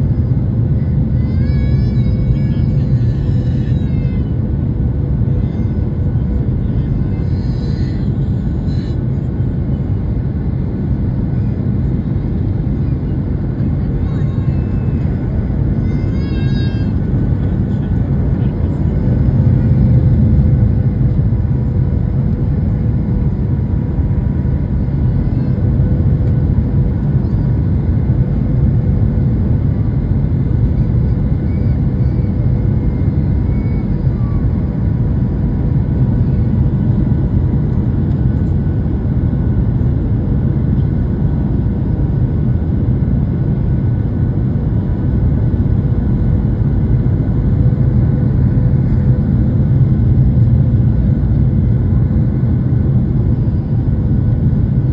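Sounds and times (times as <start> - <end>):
aircraft engine and airflow roar: 0.0 - 54.9.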